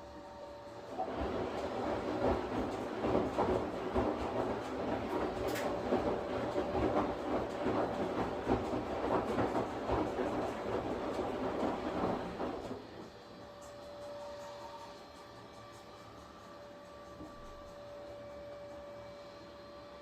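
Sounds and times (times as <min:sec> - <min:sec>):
washing machine churning: 0:00.0 - 0:20.0.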